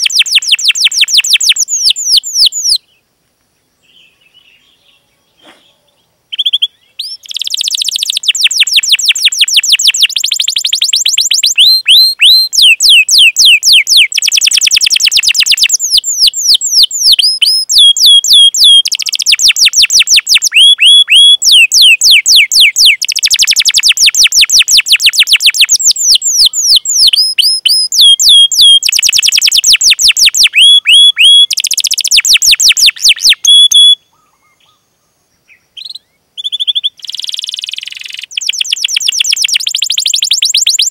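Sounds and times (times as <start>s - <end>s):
canary singing: 0.0s - 2.8s, 4.0s - 34.8s, 35.7s - 40.9s.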